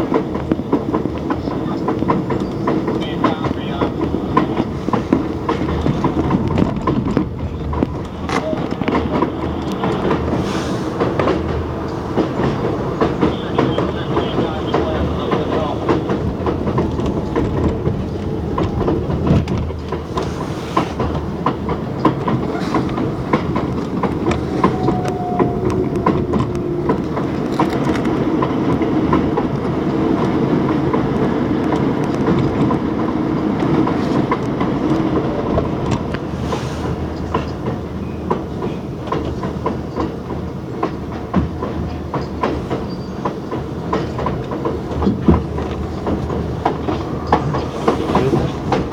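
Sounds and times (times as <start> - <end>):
subway train wheels clickety-clack: 0.0 - 48.9
train running noise: 0.0 - 48.9.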